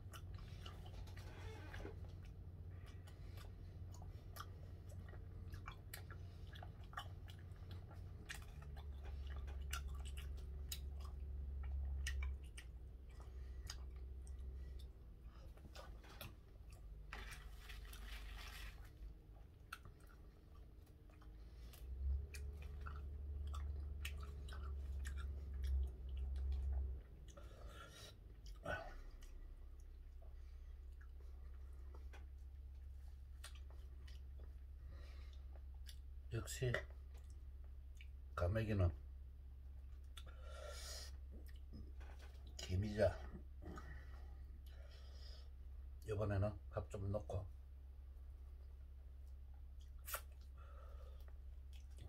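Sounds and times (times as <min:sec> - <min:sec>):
man chewing with wet mouth sounds: 0:00.0 - 0:38.4, 0:39.0 - 0:46.1, 0:47.5 - 0:52.0.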